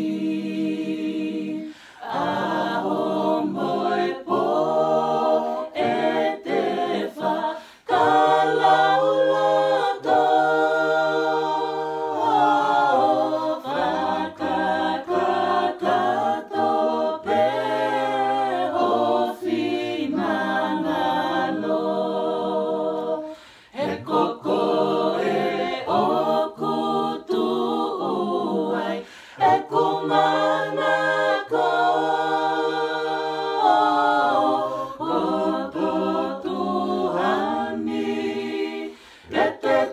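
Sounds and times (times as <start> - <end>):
group singing a cappella: 0.0 - 39.9.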